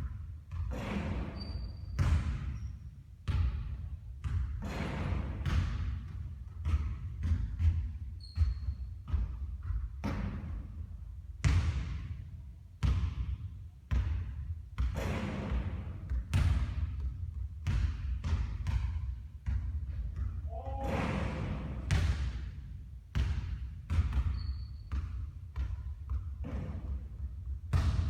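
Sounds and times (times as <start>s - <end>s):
basketball bouncing on court: 0.0s - 28.0s.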